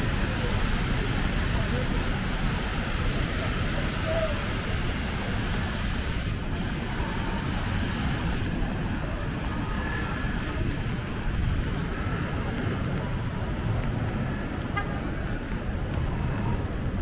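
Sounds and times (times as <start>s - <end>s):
traffic on wet pavement: 0.0s - 17.0s.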